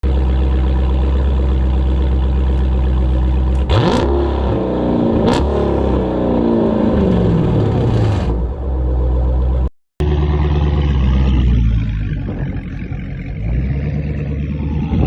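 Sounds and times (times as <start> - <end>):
car engine idling and revving: 0.0 - 15.0
exhaust cracks: 0.0 - 15.0.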